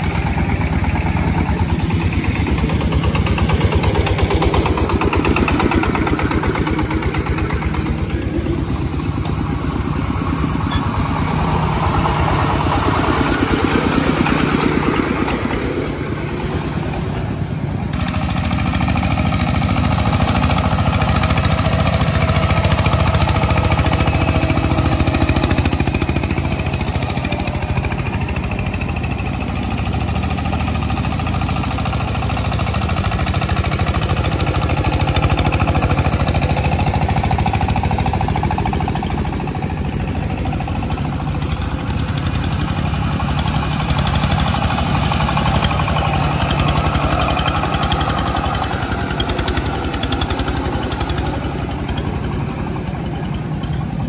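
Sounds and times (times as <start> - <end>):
single-cylinder diesel engine running: 0.0 - 54.0.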